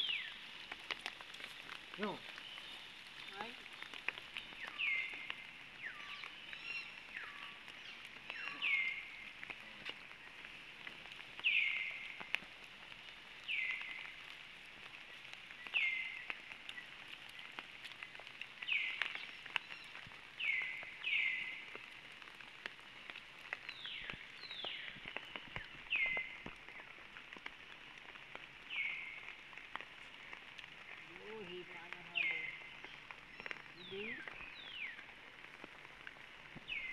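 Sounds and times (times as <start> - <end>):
steady outdoor hiss: 0.0 - 36.9.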